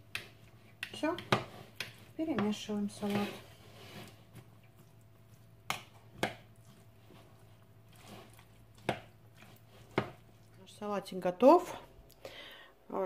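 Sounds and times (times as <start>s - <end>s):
utensil stirring salad: 0.0s - 10.9s.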